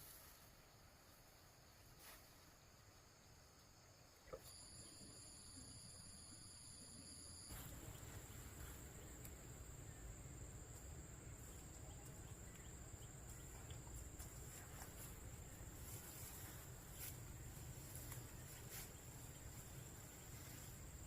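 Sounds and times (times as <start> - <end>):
insect chirring: 0.1 - 21.0.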